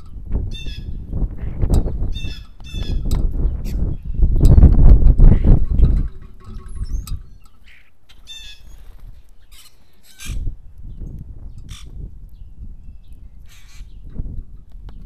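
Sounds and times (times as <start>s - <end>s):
bird trill: 0.0s - 14.2s
harsh bird calls: 0.5s - 14.2s
thin bird chirps: 1.8s - 14.2s.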